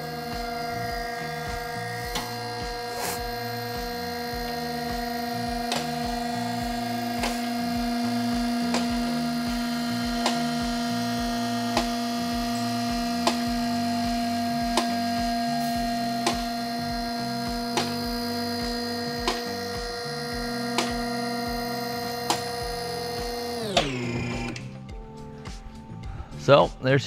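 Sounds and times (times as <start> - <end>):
hydraulic pump motor humming: 0.0 - 25.2.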